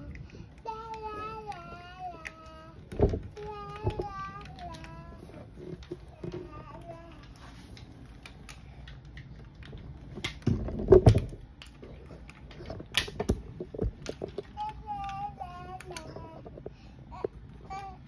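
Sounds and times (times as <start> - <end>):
plastic bricks clicking and clattering: 0.0 - 17.9.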